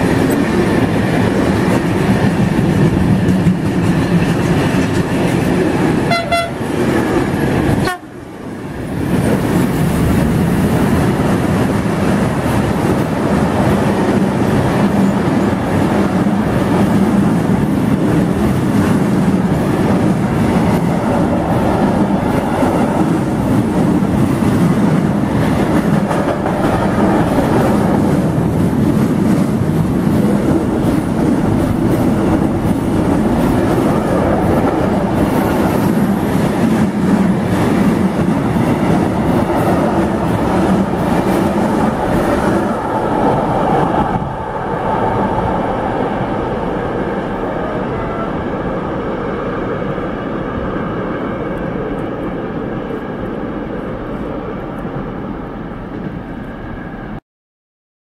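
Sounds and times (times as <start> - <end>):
freight train rumbling past: 0.0 - 57.2.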